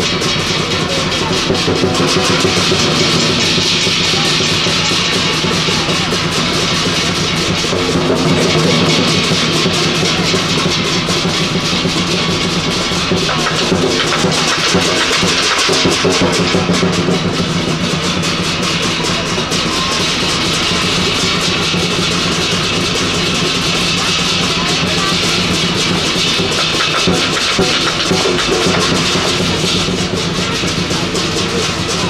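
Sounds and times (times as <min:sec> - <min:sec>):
big drum beaten fast: 0:00.0 - 0:32.0
crashing cymbals: 0:00.0 - 0:32.0.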